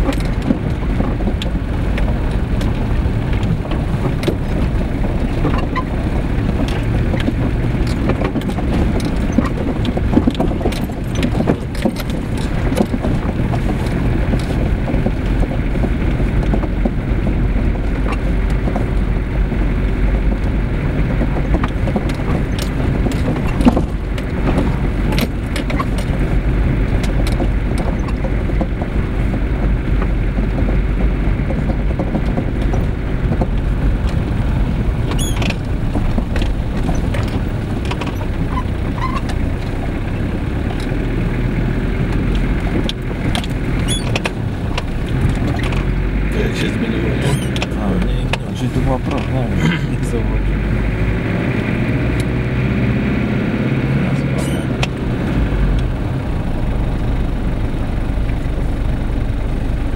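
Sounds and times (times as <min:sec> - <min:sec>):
car knocks and rattles: 0:00.0 - 0:59.9
engine and tyre rumble: 0:00.0 - 0:59.9.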